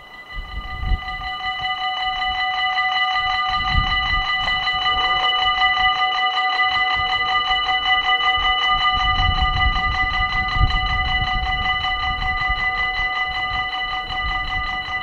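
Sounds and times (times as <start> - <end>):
wind buffeting microphone: 0.0 - 2.4, 3.2 - 6.0, 6.7 - 15.0.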